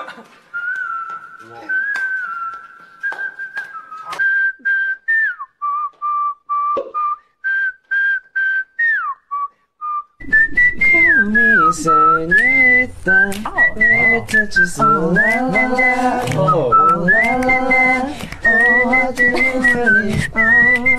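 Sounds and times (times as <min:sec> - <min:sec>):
person whistling a tune: 0:00.6 - 0:20.9.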